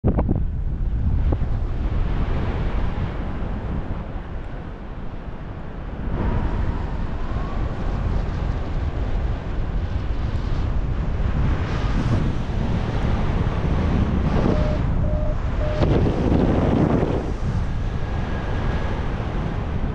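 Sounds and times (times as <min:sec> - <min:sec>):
wind roaring over microphone: 0:00.0 - 0:19.9.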